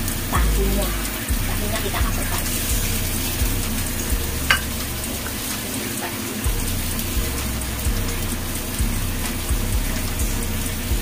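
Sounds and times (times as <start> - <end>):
broth simmering and sizzling: 0.0 - 11.0.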